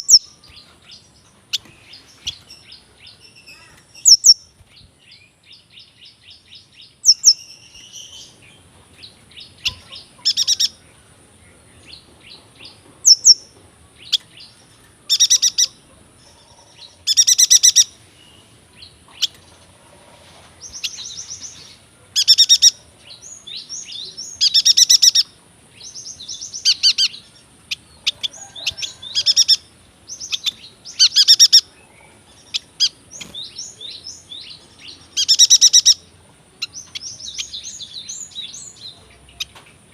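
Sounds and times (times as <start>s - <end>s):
bird singing rolling trills: 0.0s - 19.7s, 20.6s - 39.9s.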